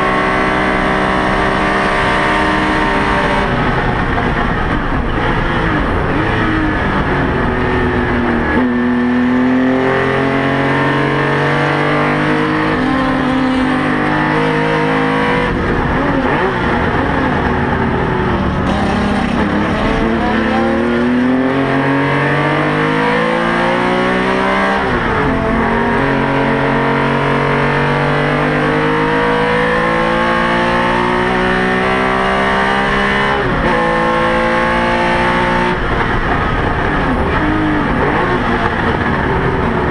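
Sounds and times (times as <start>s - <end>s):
racing car engine at full throttle: 0.0s - 39.9s.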